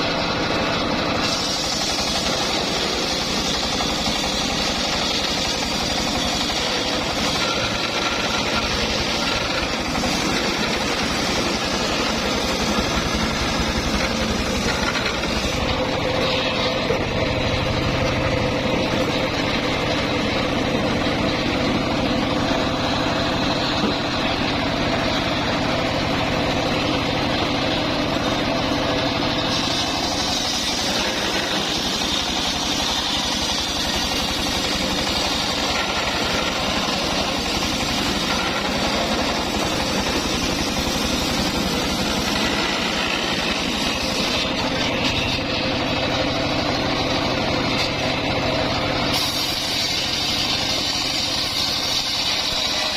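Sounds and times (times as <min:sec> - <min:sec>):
engine-driven circular saw running: 0:00.0 - 0:52.9.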